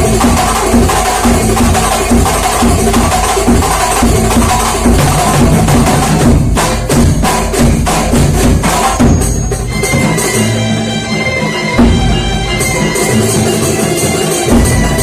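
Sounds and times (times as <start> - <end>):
hand-drum ensemble beating: 0.0 - 15.0
held steady notes: 0.0 - 15.0.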